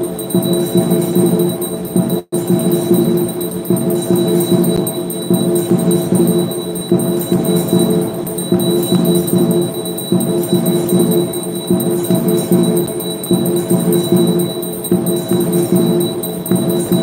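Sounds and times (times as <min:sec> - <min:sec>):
devotional music with jingling bells: 0:00.0 - 0:17.0.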